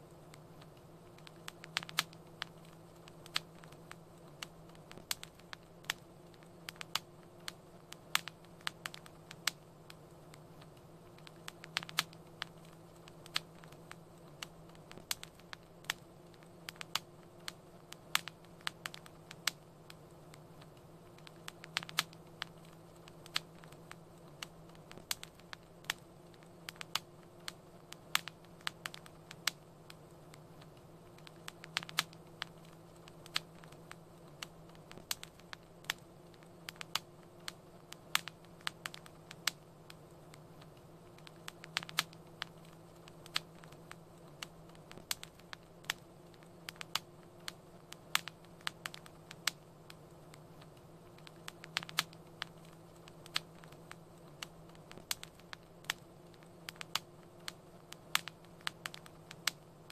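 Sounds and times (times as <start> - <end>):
faint steady hum: 0.0 - 59.9
wood fire crackling: 0.0 - 59.9.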